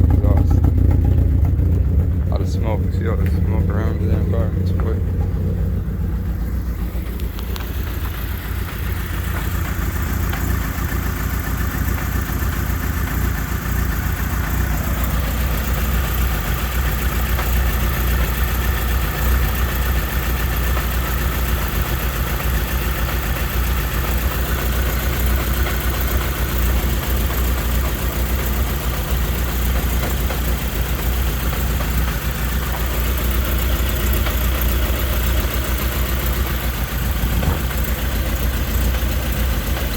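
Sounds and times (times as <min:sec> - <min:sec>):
car engine idling with misfire: 0:00.0 - 0:39.9.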